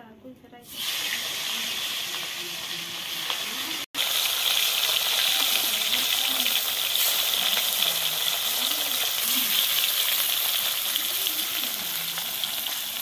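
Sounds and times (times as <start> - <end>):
fish sizzling in hot oil: 0.7 - 13.0.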